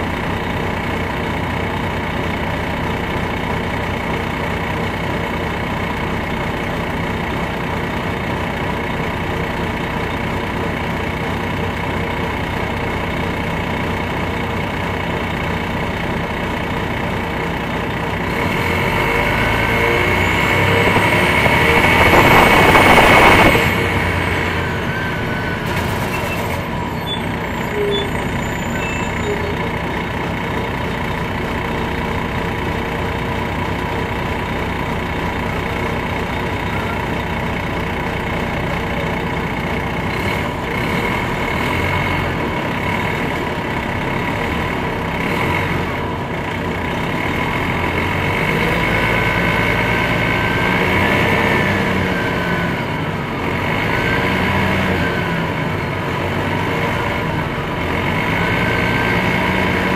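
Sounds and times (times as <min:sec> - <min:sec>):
bus engine idling and revving: 0:00.0 - 0:59.9.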